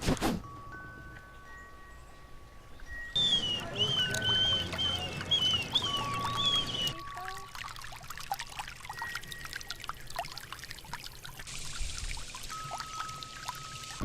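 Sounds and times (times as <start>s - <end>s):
water trickling and dripping: 0.8s - 14.0s.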